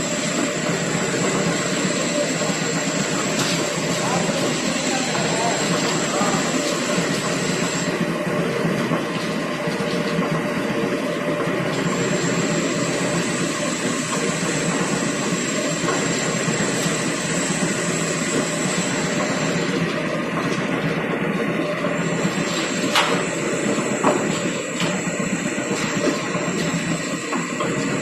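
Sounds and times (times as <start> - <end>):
plate rolling machine running: 0.0 - 28.0.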